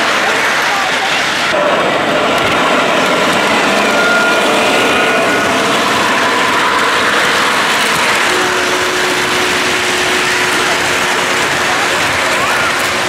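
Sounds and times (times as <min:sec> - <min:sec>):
locomotive motors humming: 0:00.0 - 0:13.0
train wheels clattering on rails: 0:00.0 - 0:13.0.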